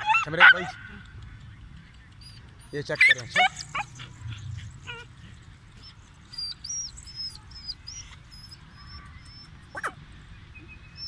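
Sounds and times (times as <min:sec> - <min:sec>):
small bird chirping: 0:01.0 - 0:11.0.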